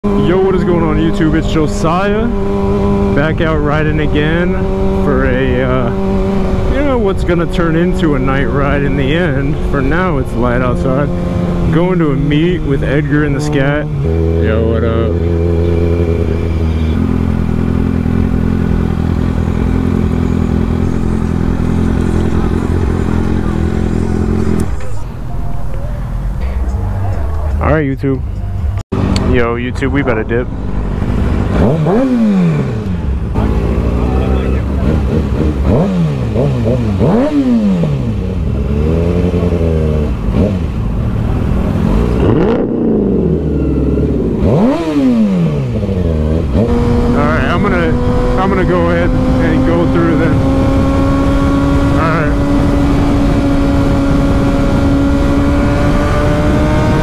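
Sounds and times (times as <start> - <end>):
motorcycle engine running at low revs: 0.0 - 27.6, 30.0 - 57.0.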